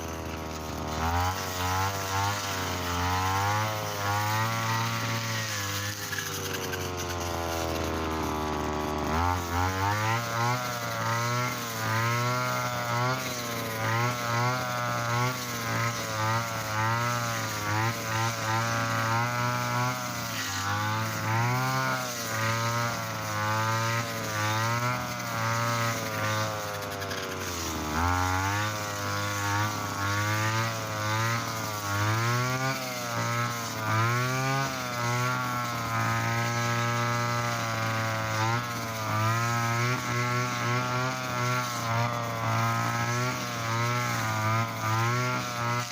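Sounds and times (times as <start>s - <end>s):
brush cutter cutting grass: 0.0s - 45.9s.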